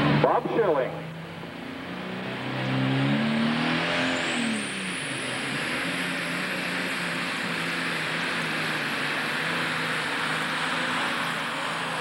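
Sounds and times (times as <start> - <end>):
tractor engine revving under load: 1.6 - 12.0.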